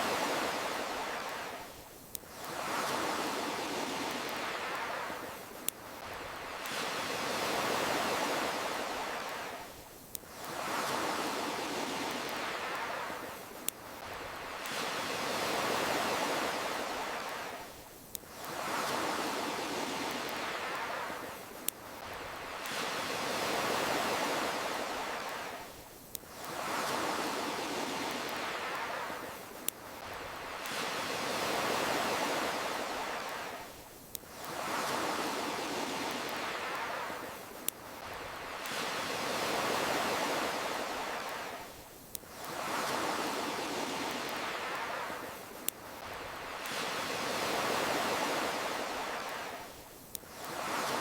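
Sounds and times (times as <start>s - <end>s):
campfire crackles: 0.0s - 51.0s
ocean waves washing: 0.0s - 51.0s.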